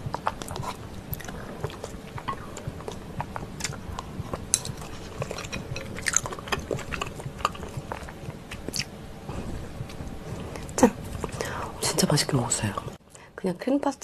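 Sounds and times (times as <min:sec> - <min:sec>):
mouth clicks and smacks: 0:00.0 - 0:11.6
chewing pasta: 0:00.0 - 0:12.1.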